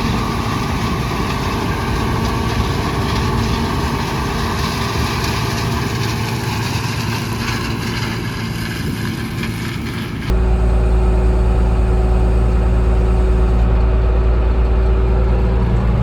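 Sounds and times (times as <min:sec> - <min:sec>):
combine engine hum: 0:00.0 - 0:16.0
machinery noise: 0:00.0 - 0:16.0.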